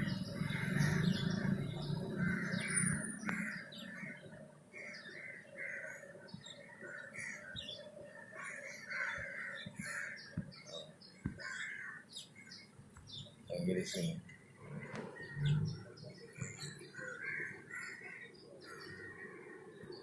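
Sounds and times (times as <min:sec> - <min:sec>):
crows cawing: 0:00.0 - 0:12.7, 0:14.7 - 0:20.0.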